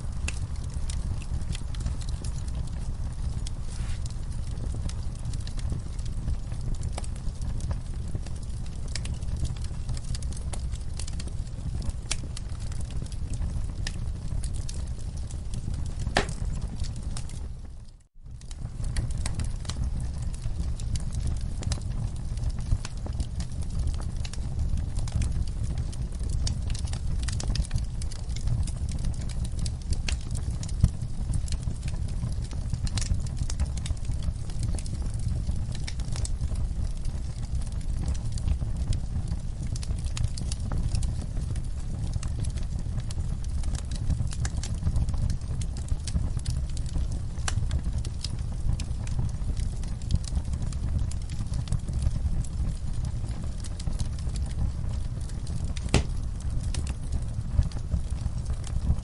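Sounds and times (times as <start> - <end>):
fire popping and snapping: 0.0 - 59.0
low rumble of flames: 0.0 - 59.0
wood fire crackling: 0.0 - 59.0.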